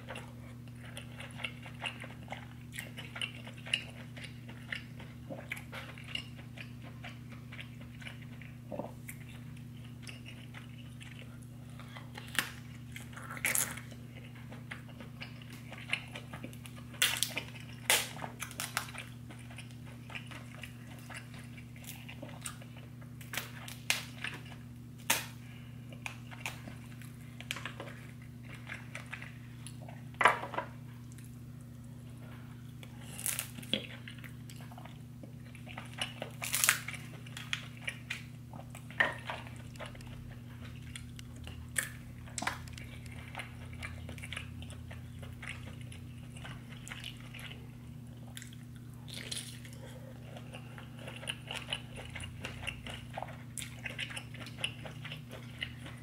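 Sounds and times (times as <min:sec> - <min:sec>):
person chewing and biting: 0:00.0 - 0:31.4, 0:32.7 - 0:56.0
steady low hum: 0:00.0 - 0:56.0.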